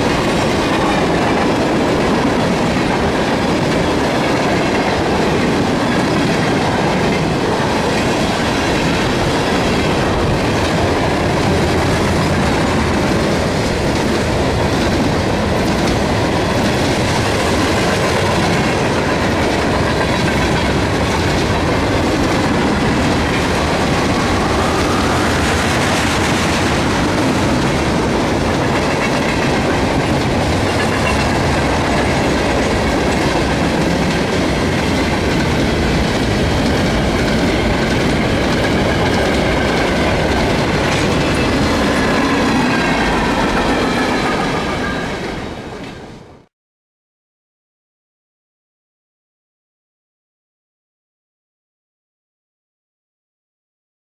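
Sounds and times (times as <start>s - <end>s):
freight train wheels on rail: 0.0s - 46.5s.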